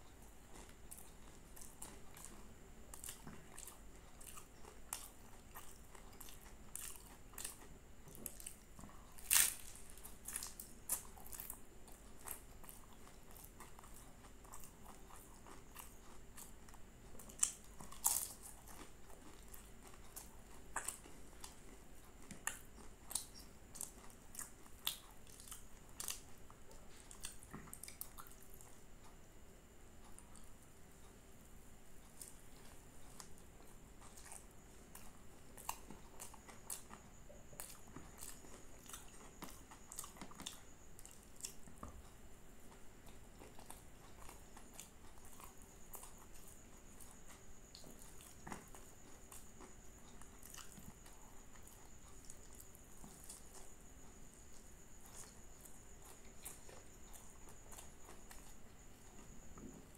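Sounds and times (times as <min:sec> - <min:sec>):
chewing and crunching pastry: 0:00.0 - 0:59.9.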